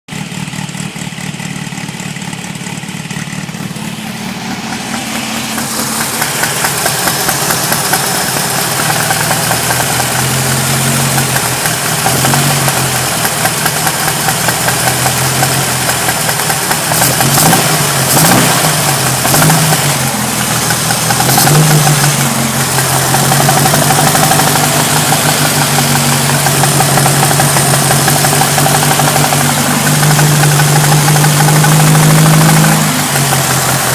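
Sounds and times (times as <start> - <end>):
engine running near idle: 0.1 - 33.9
rapid engine rattling: 0.1 - 33.9.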